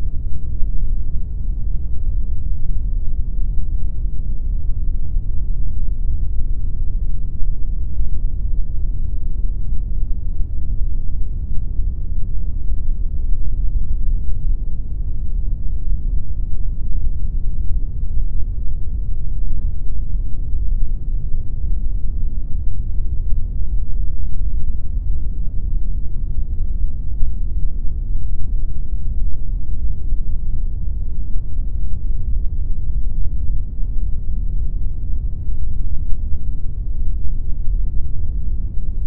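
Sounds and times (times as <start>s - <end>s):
deep rumbly pink noise: 0.0s - 39.0s.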